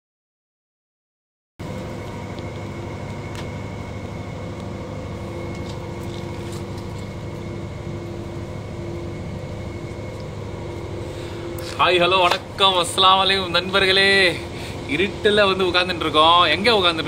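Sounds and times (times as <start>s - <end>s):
mechanical hum with whine: 1.6s - 17.0s.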